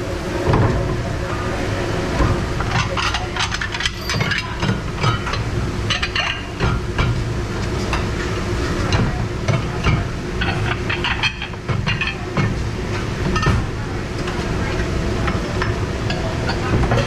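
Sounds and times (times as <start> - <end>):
dish machine rumbling: 0.0 - 17.0
hot water running: 0.0 - 17.0
dishes clattering: 2.2 - 17.0.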